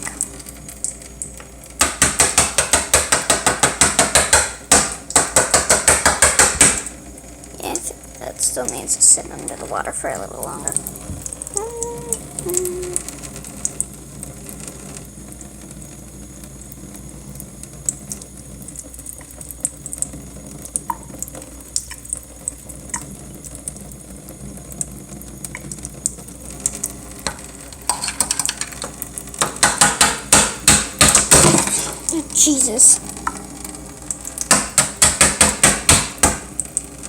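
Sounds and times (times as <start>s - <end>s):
water running from a tap: 0.0s - 37.0s.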